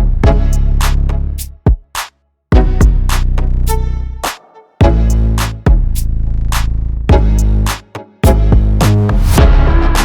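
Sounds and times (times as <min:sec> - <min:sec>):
hip-hop beat: 0:00.0 - 0:10.0.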